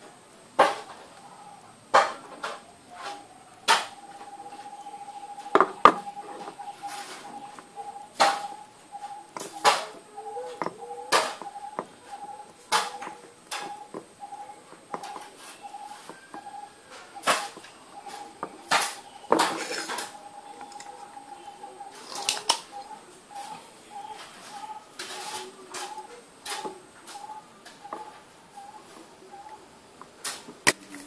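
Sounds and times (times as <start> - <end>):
faint pulsing high tone: 1.1 - 29.9.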